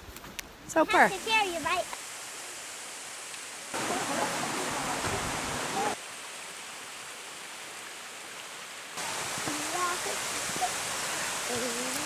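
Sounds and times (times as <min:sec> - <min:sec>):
mountain stream running water: 0:00.5 - 0:12.0.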